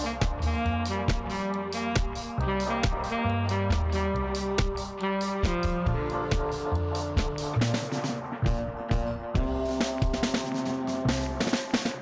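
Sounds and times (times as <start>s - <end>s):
instrumental music with walking bass: 0.0s - 12.0s.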